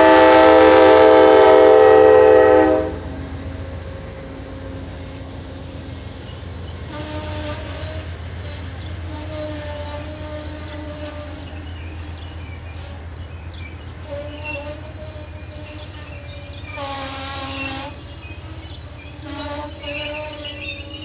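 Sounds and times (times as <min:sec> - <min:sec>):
train wheels rumbling on rail: 0:00.0 - 0:21.0
wheel squealing tones: 0:00.0 - 0:21.0.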